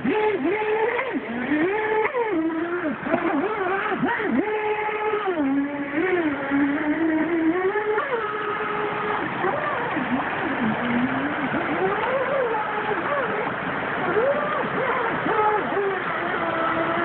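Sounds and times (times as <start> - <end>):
electric motor whining: 0.0 - 17.0
rushing water: 0.0 - 17.0.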